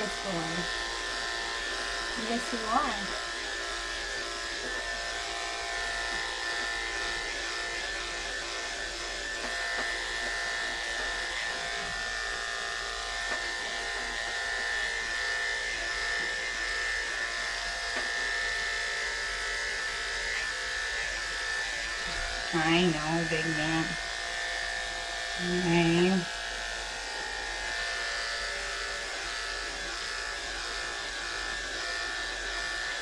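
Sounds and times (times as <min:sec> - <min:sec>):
electric clippers buzzing: 0:00.0 - 0:33.0.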